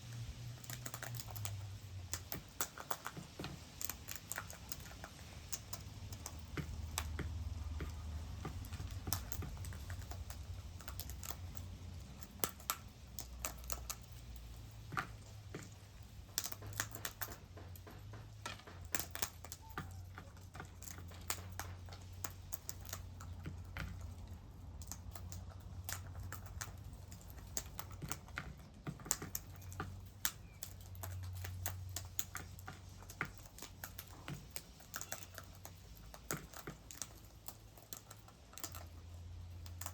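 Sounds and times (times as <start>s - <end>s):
light clicks and taps: 0.1s - 39.9s.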